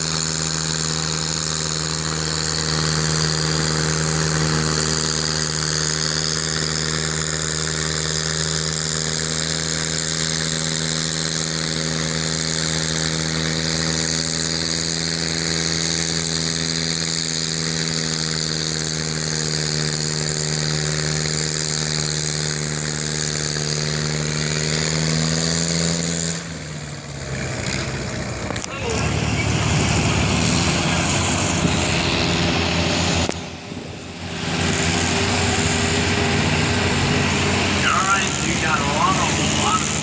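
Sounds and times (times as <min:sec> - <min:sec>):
tractor engine running hard: 0:00.0 - 0:40.0.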